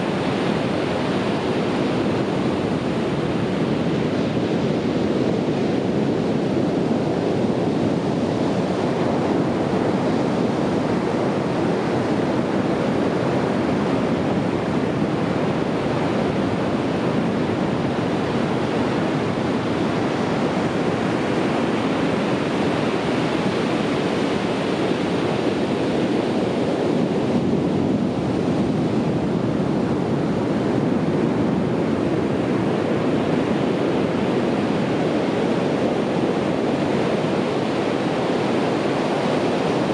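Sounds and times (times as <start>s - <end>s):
ocean waves washing on beach: 0.0s - 39.9s.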